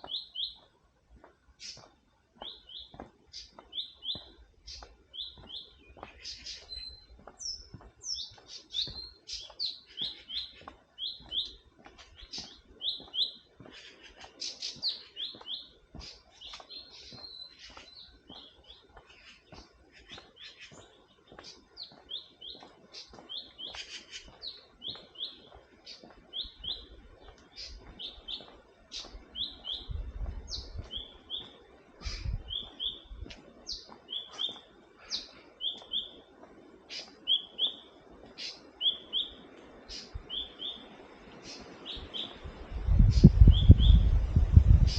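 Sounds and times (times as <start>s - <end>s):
forest birds chirping: 0.0s - 44.9s.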